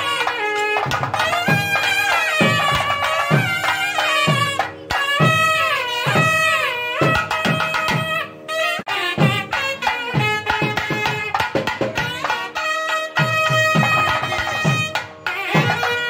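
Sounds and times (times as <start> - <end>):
drum strokes: 0.0 - 16.0
reed wind instrument melody: 0.0 - 16.0.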